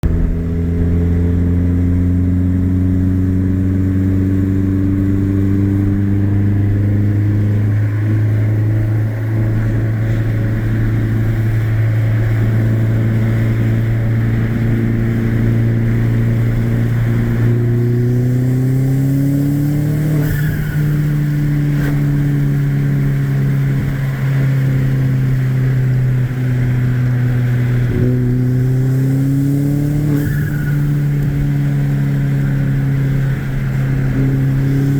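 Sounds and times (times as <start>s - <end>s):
turbocharged car engine revving: 0.0s - 34.9s.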